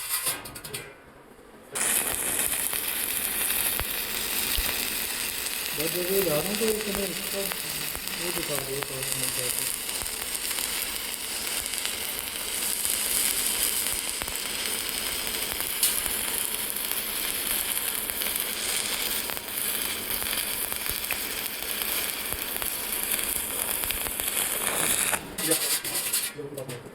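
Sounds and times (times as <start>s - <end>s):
welding arc sizzling: 1.8s - 26.3s.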